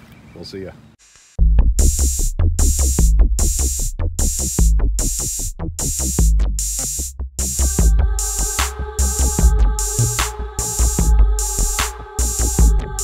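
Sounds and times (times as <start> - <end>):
drum machine beat: 1.3 - 13.0
sustained synth chords: 1.4 - 13.0.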